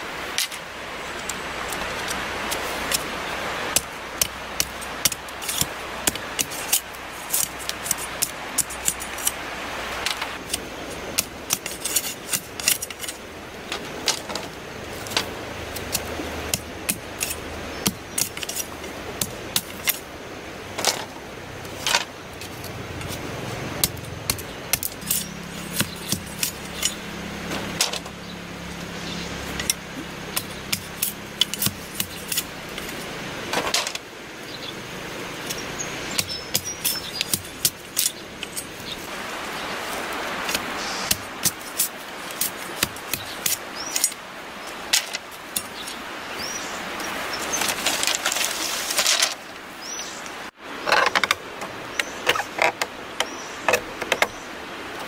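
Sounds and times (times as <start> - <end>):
background hiss: 0.0 - 55.0
wooden stakes clicking and knocking: 0.3 - 20.1, 20.7 - 28.2, 29.5 - 34.0, 35.4 - 39.1, 40.0 - 46.0, 47.0 - 49.6.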